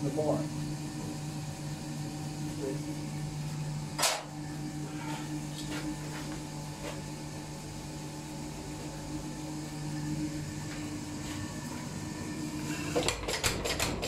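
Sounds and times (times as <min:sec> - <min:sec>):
electric machinery hum: 0:00.0 - 0:14.0.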